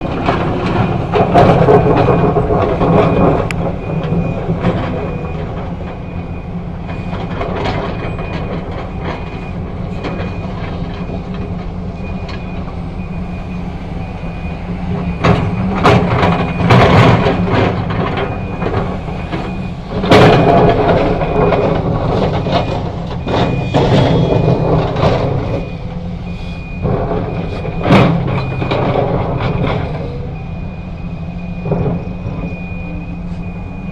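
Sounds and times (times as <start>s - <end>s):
heavy diesel machinery running: 0.0s - 33.9s
loud clanks and bangs: 0.0s - 33.9s.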